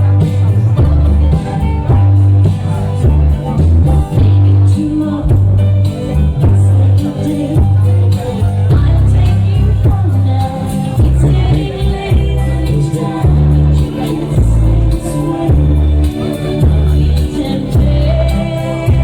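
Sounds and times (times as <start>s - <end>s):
heavy bass line: 0.0s - 19.0s
music with singing: 0.0s - 19.0s.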